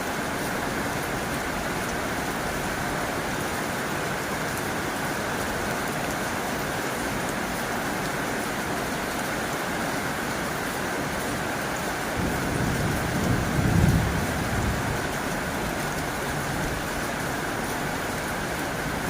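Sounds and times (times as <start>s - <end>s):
heavy rain on a tin roof: 0.0s - 19.0s.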